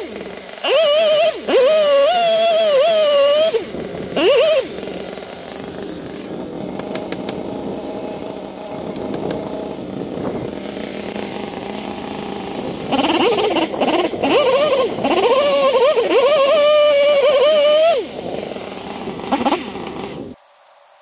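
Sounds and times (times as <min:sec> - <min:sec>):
chainsaw engine drone: 0:00.0 - 0:20.4.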